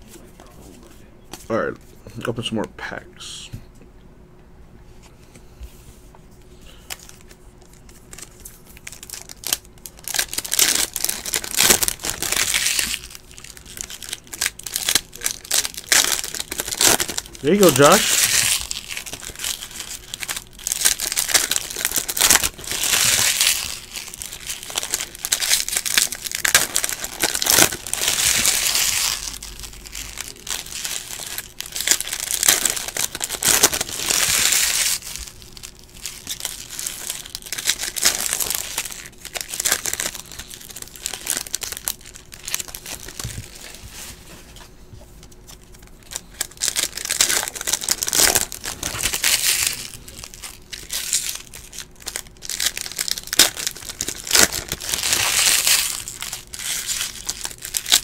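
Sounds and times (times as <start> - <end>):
plastic wrappers crinkling: 6.8 - 44.2, 45.2 - 58.0.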